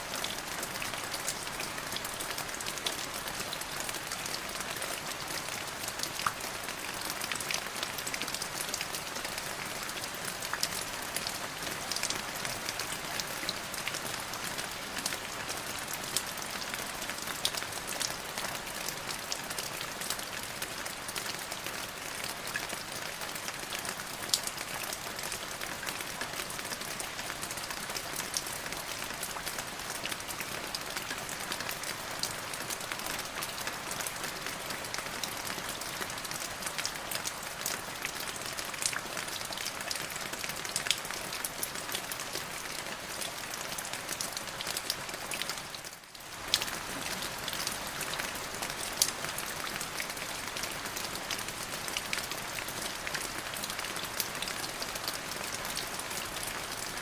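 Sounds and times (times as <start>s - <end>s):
rain pattering on a hard surface: 0.0s - 57.0s.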